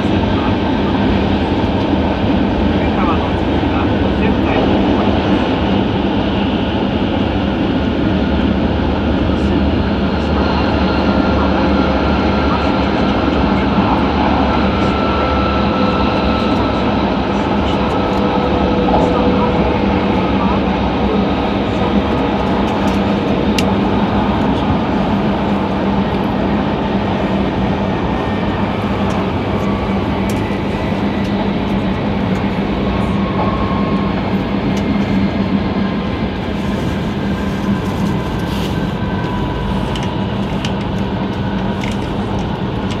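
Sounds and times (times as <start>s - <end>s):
train cabin rumble and hum: 0.0s - 43.0s.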